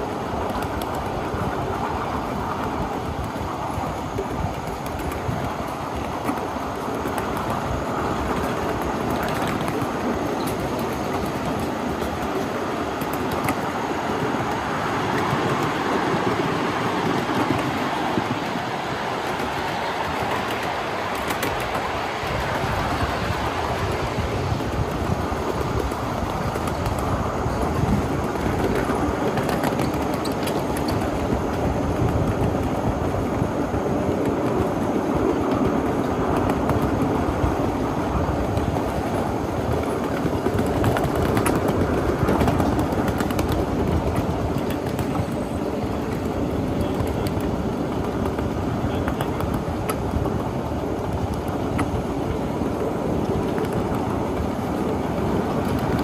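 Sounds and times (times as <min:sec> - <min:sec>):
train wheels rumbling on rails: 0:00.0 - 0:56.0
wheels clicking over rail joints: 0:00.0 - 0:56.0.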